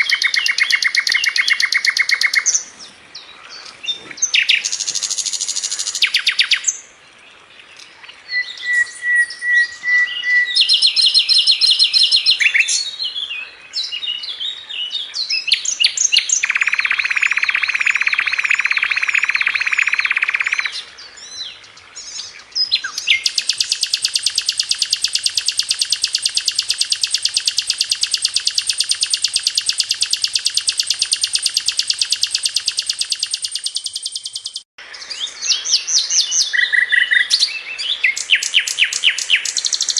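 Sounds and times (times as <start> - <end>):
bird singing whistles and trills: 0.0 - 2.8, 3.8 - 6.9, 8.2 - 39.9.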